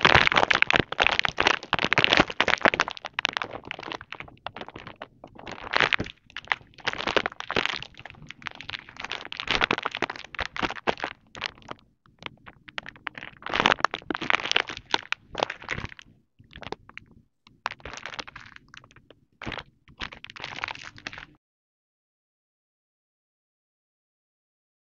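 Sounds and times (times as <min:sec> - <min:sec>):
packaging crinkling: 0:00.0 - 0:21.4.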